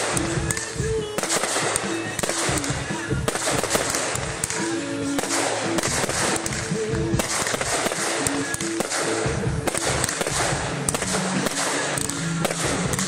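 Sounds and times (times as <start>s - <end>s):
fireworks bursting and crackling: 0.0s - 13.0s
music playing: 0.0s - 13.0s.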